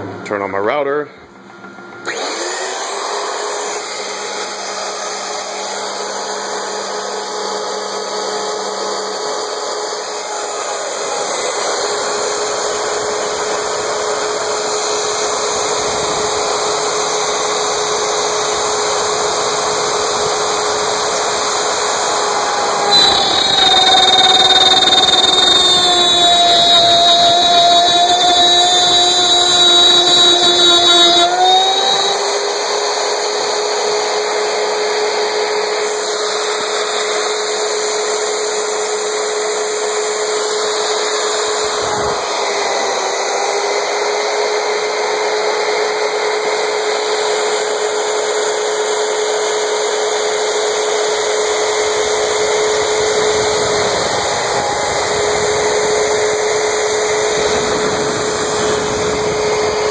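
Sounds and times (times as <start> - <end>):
wood router whining: 2.0 - 59.9
hiss of router cutting wood: 2.1 - 59.9.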